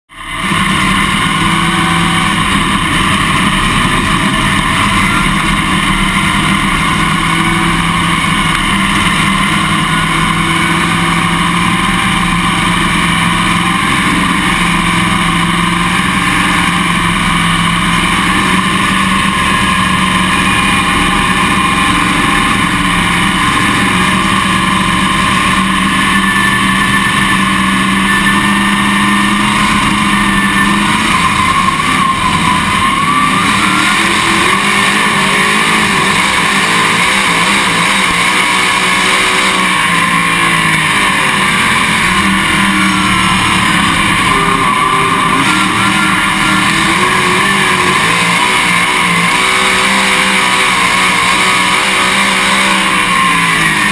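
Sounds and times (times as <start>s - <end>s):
other race cars: 0.0s - 53.9s
race car engine running: 0.0s - 53.9s.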